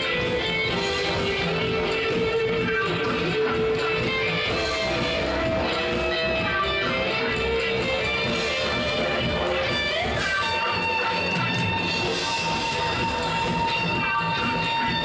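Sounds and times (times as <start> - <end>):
electric guitar: 0.0 - 15.0
trance band playing live: 0.0 - 15.0.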